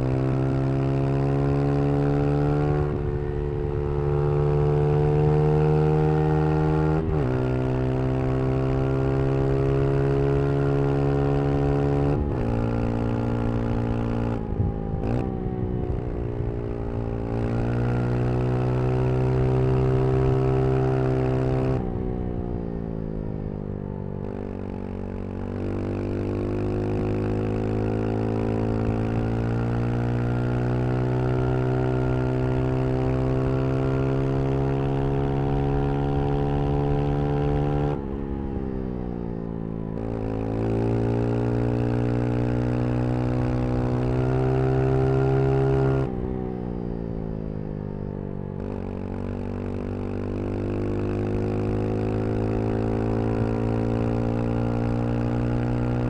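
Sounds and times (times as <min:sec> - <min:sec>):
motorcycle engine revving: 0:00.0 - 0:22.5, 0:24.2 - 0:38.7, 0:39.3 - 0:46.7, 0:48.4 - 0:56.0.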